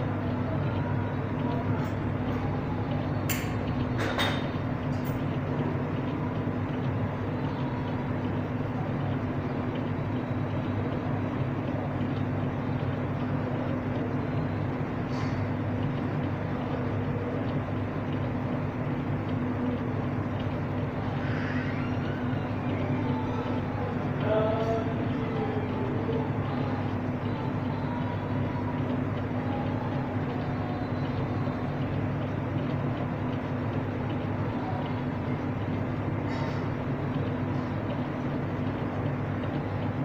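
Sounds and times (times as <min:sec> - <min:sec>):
low machinery hum: 0:00.0 - 0:40.0.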